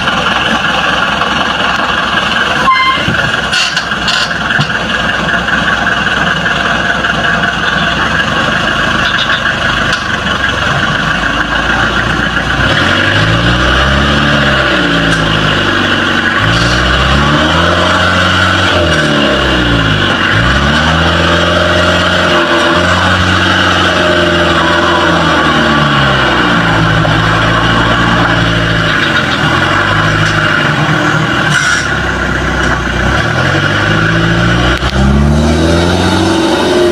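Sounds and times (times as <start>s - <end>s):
truck engine revving: 0.0s - 36.9s.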